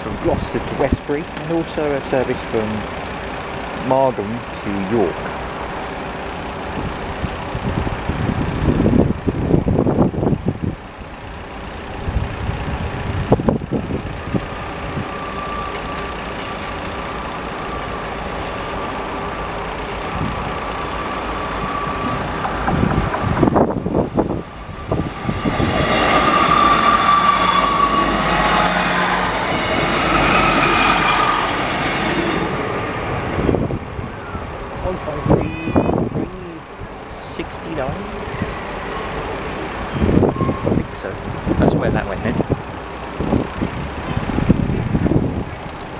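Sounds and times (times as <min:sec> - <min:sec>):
diesel train engine passing: 0:00.0 - 0:45.9
train wheels on track: 0:00.0 - 0:45.9.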